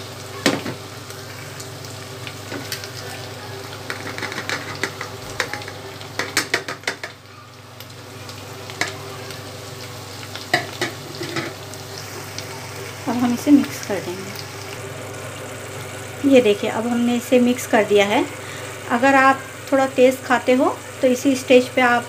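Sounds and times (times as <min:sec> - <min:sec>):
meat and onions sizzling: 0:00.0 - 0:22.0.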